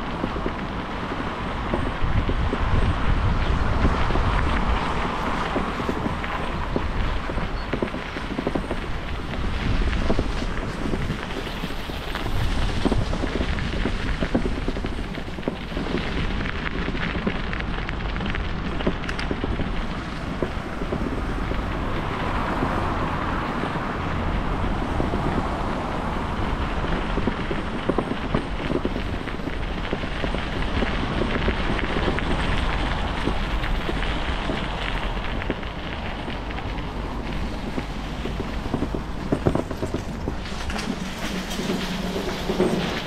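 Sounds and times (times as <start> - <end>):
bicycle tyres crunching on gravel: 0.0 - 43.0
wind noise on microphone: 0.0 - 43.0.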